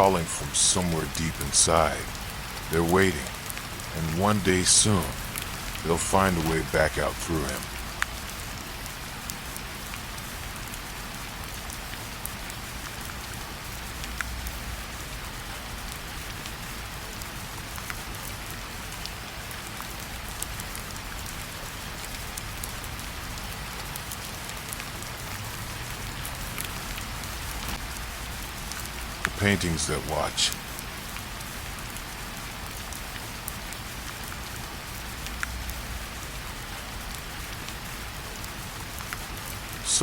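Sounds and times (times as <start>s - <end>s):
raindrops ticking: 0.0s - 40.0s
steady rain falling: 0.0s - 40.0s.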